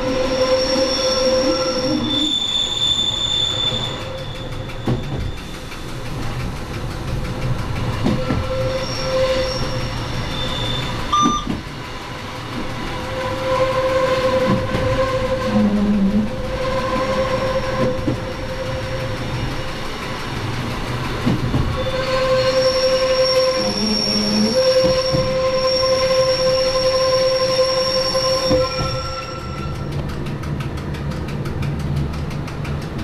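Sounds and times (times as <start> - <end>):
train wheels squealing: 0.0 - 11.7, 12.4 - 30.6
train running rumble: 0.0 - 33.0.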